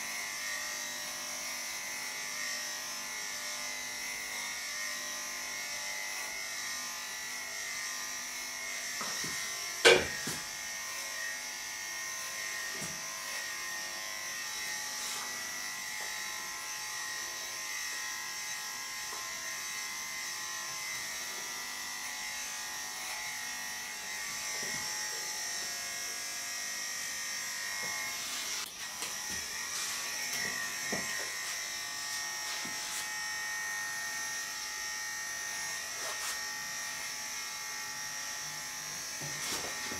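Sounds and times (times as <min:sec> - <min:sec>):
electric clippers buzzing: 0:00.0 - 0:39.9.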